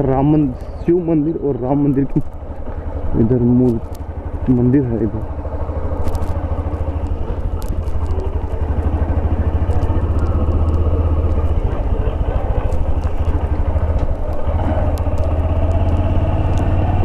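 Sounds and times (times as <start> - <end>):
motorcycle engine running under load: 0.1 - 17.0.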